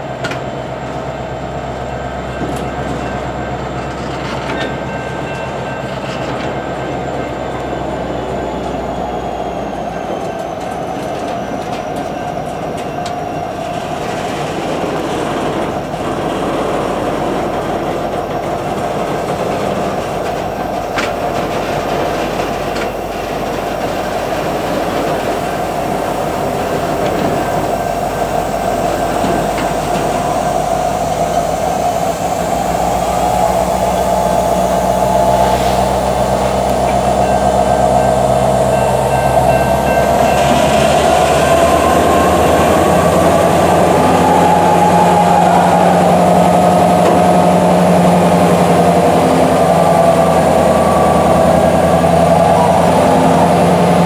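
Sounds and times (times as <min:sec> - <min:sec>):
diesel locomotive engine running: 0:00.0 - 0:54.0
steady whine: 0:00.0 - 0:54.0.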